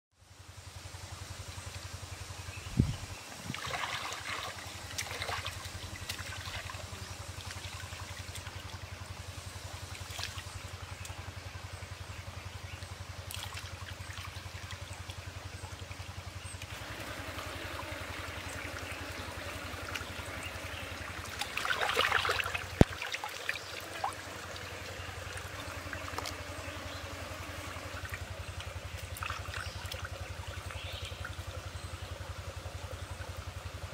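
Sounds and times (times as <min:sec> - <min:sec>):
steady low hum: 0:00.2 - 0:33.9.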